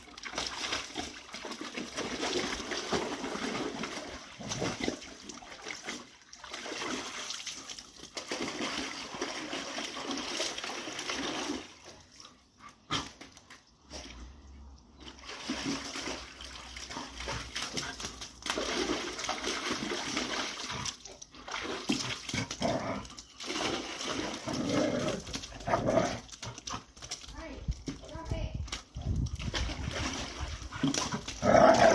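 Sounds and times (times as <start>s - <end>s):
water splashing: 0.0s - 31.9s.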